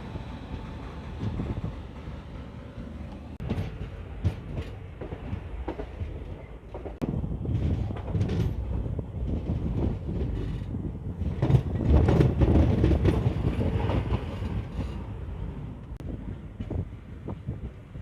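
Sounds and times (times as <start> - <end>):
wheels clacking over rail joints: 0.0 - 16.8.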